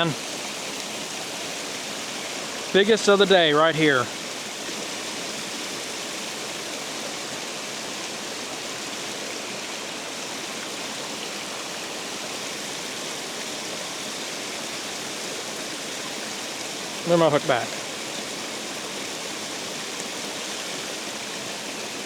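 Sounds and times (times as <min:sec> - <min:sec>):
water pouring over spillway: 0:00.0 - 0:22.0.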